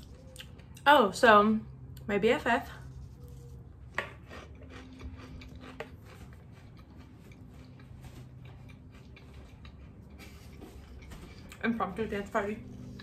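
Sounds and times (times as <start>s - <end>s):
chewing salad: 0.0s - 0.9s, 1.7s - 2.1s, 2.8s - 13.0s
low steady hum: 0.0s - 13.0s.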